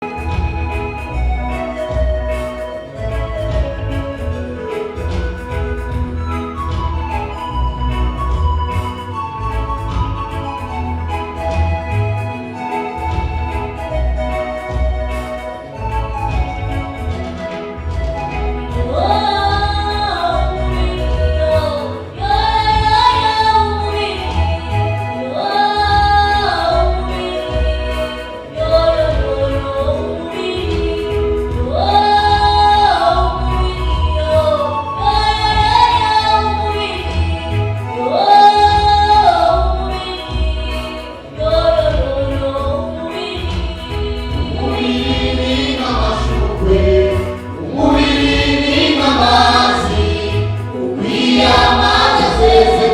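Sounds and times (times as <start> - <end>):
choir singing gospel: 0.0 - 52.9
instrumental accompaniment with bass: 0.0 - 52.9.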